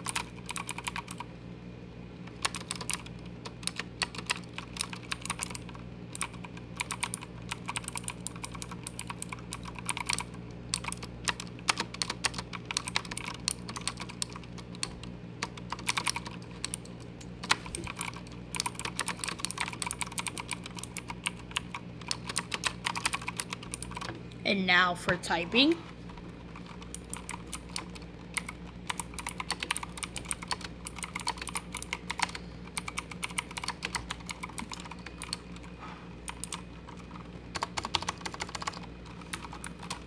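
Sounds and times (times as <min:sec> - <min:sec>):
mechanical keyboard clicking: 0:00.0 - 0:01.3, 0:02.2 - 0:24.2, 0:26.4 - 0:35.7, 0:36.3 - 0:40.0.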